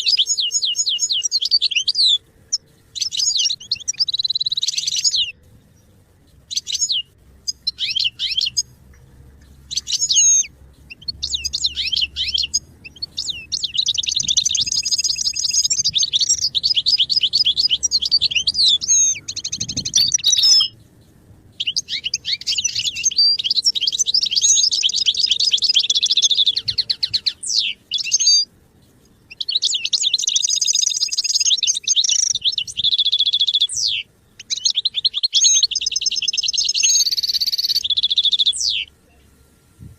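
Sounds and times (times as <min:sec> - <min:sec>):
goldfinch twittering song: 0:00.0 - 0:05.9, 0:06.5 - 0:20.8, 0:21.5 - 0:38.9.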